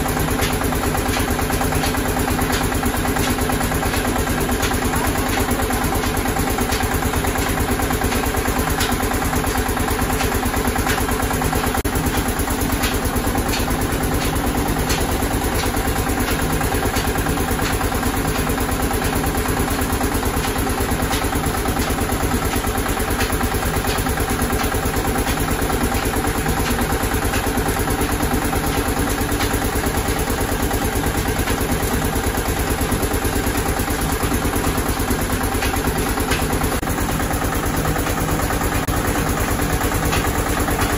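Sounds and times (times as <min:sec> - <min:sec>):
oil press machine droning: 0:00.0 - 0:40.9.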